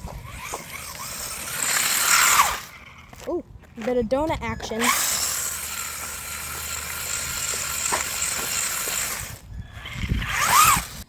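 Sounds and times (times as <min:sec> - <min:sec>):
tires scrubbing on pavement: 0:00.0 - 0:04.0, 0:04.8 - 0:11.0
electric motor whining: 0:00.0 - 0:11.0.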